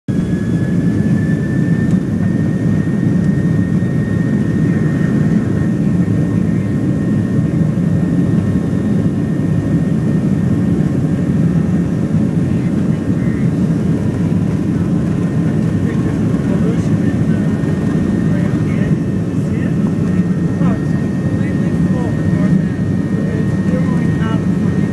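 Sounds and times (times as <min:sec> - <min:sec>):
jet engines rumbling with whine: 0:00.1 - 0:24.9.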